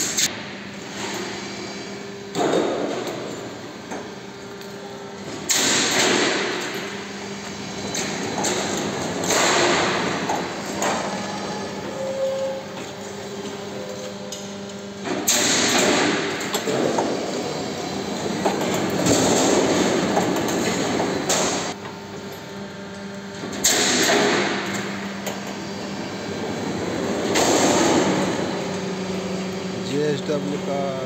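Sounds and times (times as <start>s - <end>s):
machine motor hum: 0.0s - 31.0s.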